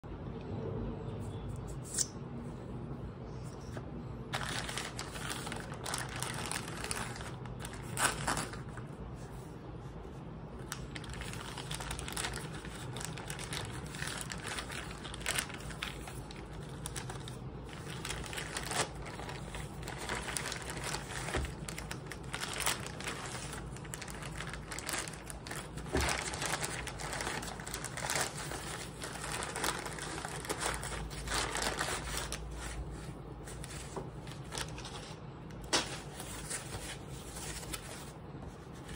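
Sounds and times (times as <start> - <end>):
plastic mailer crinkling: 4.3 - 9.0, 10.6 - 38.2.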